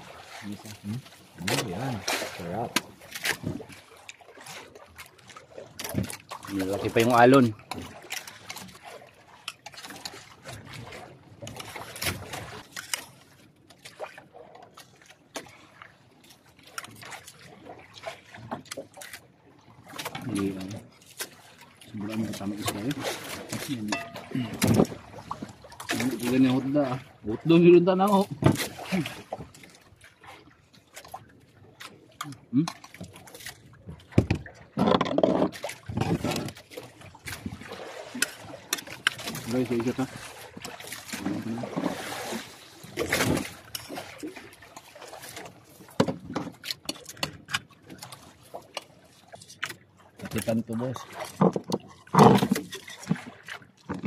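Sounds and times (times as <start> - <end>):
sea waves against a boat: 0.0 - 54.0.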